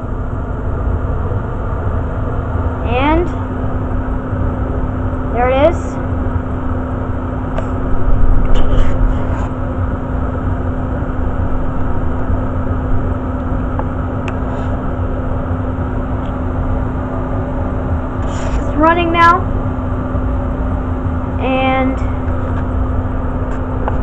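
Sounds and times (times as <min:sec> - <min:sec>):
constant low hum: 0:00.0 - 0:24.0
furnace blower fan rushing: 0:00.0 - 0:24.0.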